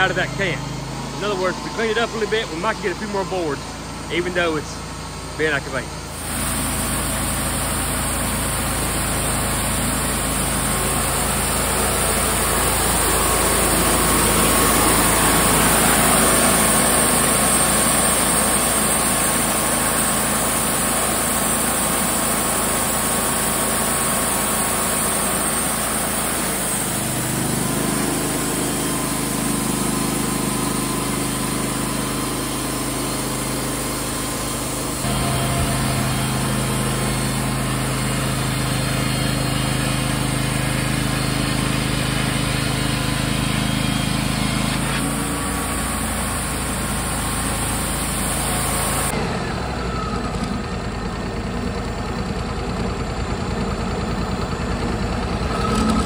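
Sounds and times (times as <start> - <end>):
sawmill engine under load: 0.0 - 56.0.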